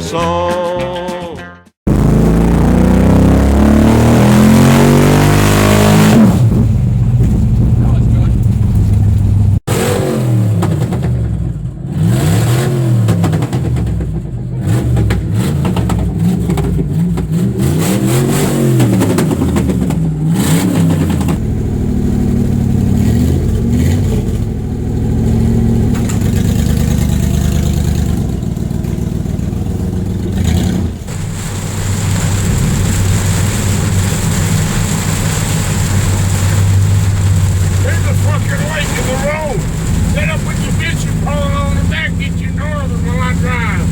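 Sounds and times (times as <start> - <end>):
engine revving and running: 1.9 - 43.9.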